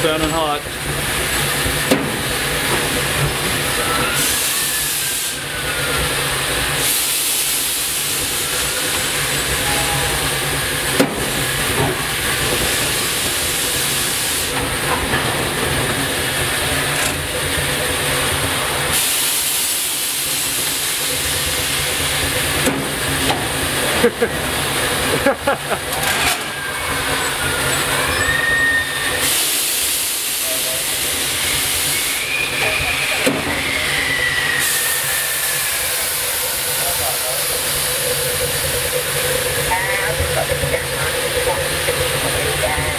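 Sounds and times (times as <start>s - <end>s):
steam hissing: 0.0s - 42.9s.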